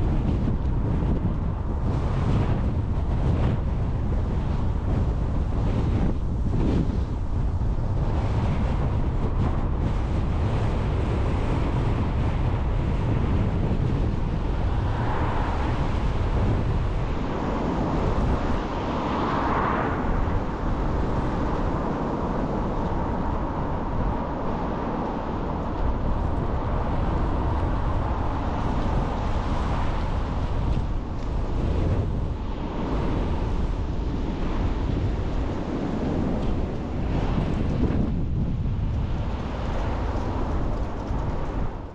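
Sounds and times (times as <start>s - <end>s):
road and engine noise: 0.0s - 41.9s
wind rumbling on microphone: 0.0s - 41.9s.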